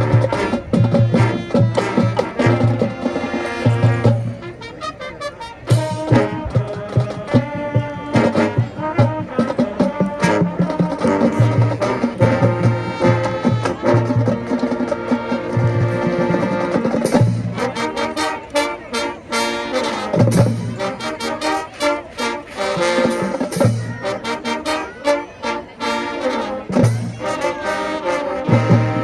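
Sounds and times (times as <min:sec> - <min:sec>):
brass playing held chords: 0:00.0 - 0:29.0.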